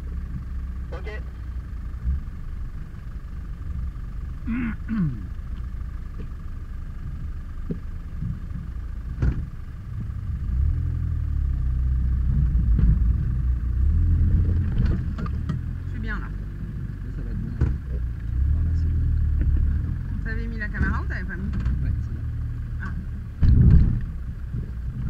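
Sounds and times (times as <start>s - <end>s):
engine running at low speed: 0.0s - 25.0s.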